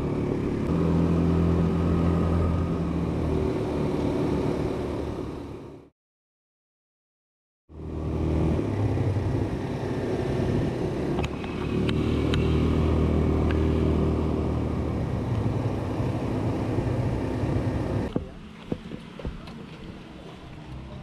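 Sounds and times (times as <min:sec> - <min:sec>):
quad bike engine running: 0:00.0 - 0:05.8, 0:07.7 - 0:19.6.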